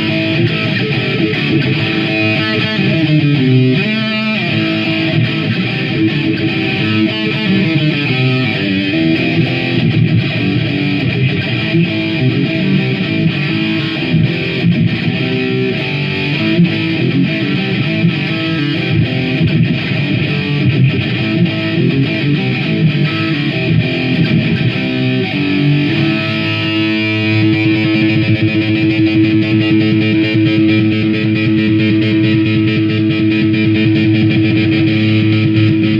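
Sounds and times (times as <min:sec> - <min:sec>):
distorted electric guitar riff: 0:00.0 - 0:35.9.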